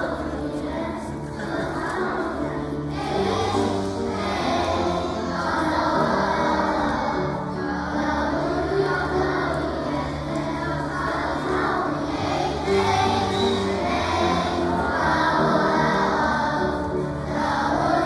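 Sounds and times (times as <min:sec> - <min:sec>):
music with singing voices: 0:00.0 - 0:18.0.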